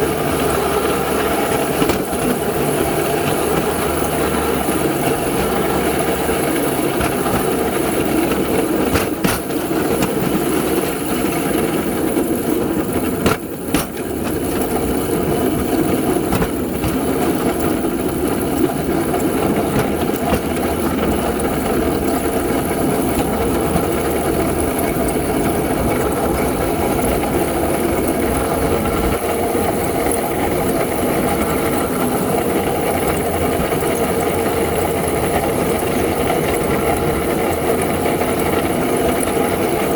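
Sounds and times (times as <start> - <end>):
engine running: 0.0 - 39.8.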